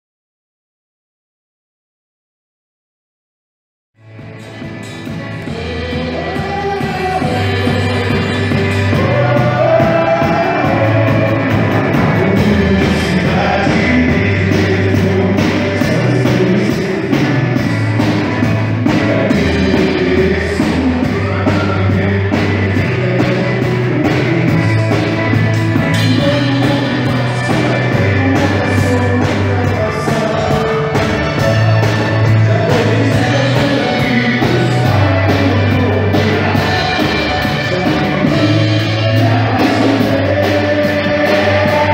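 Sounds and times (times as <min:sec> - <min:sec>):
bass line: 0:04.0 - 0:41.9
drum kit: 0:04.0 - 0:41.9
person singing: 0:04.2 - 0:41.9.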